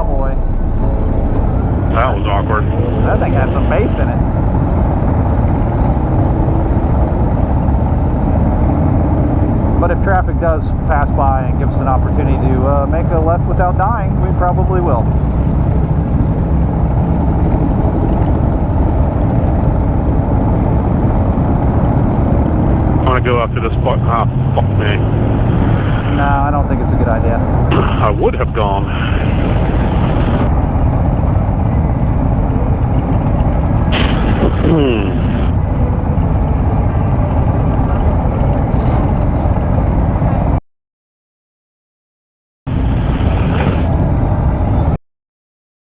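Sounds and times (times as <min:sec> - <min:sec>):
traffic noise: 0:00.0 - 0:40.6, 0:42.7 - 0:45.0.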